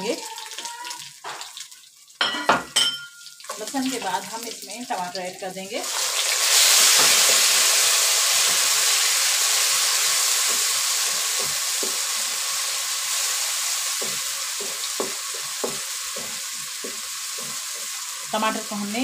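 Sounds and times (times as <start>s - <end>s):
tomato sizzling in oil: 0.0s - 19.0s.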